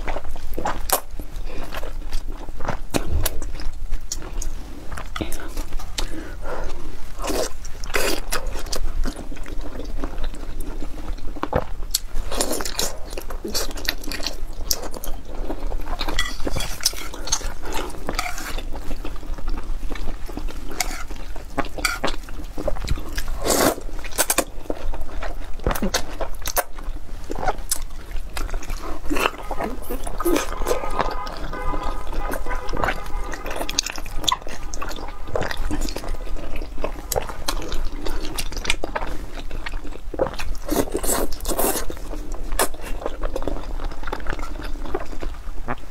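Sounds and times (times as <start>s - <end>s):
wet chewing and lip smacks: 0.0s - 45.8s.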